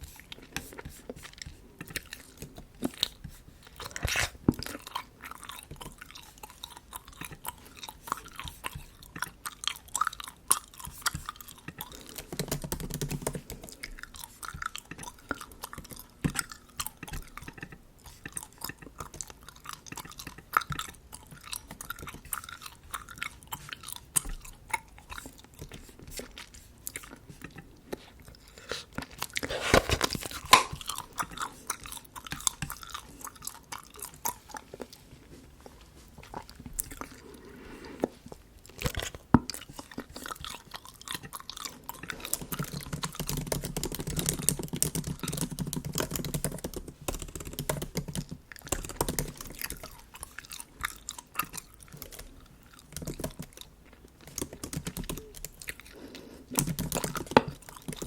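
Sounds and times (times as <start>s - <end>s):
gum chewing wet clicks: 0.0s - 29.5s, 30.1s - 37.3s, 38.3s - 58.0s.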